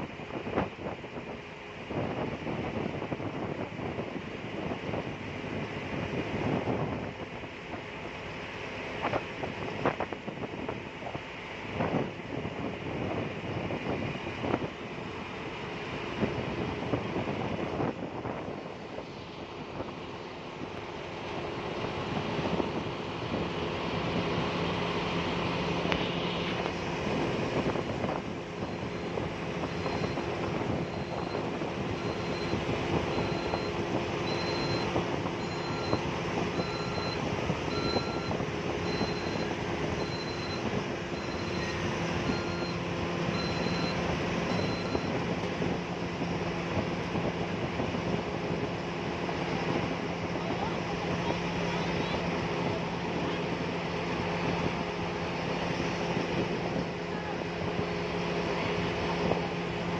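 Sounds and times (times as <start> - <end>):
wind: 0.0 - 59.9.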